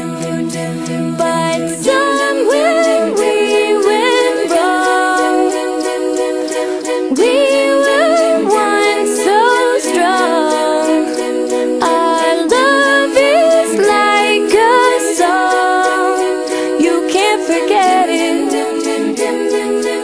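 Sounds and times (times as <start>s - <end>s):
group of voices holding chords: 0.0s - 20.0s
lead voice singing: 0.0s - 20.0s.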